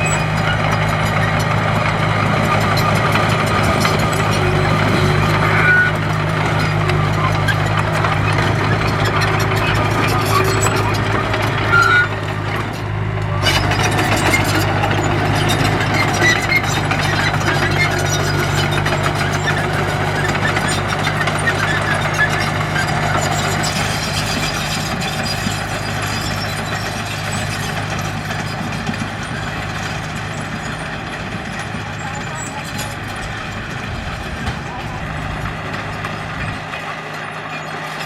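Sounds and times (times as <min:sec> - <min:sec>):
earthmoving diesel engine running: 0:00.0 - 0:38.0.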